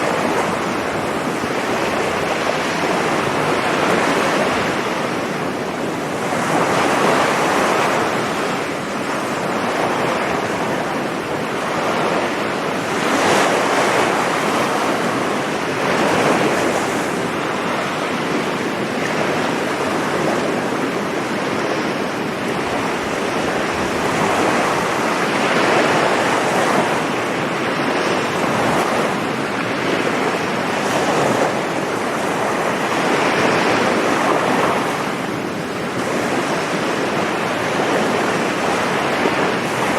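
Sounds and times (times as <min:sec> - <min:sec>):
waves breaking on sandy beach: 0:00.0 - 0:39.9
wind on microphone: 0:00.0 - 0:39.9.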